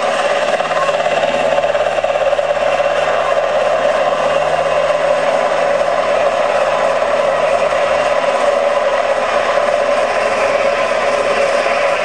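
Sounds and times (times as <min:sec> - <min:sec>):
model helicopter motor whirring: 0:00.0 - 0:12.0.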